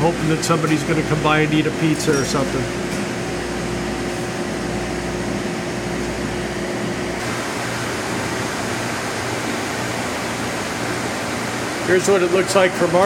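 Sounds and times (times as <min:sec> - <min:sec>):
refrigeration and fans humming: 0:00.0 - 0:13.0.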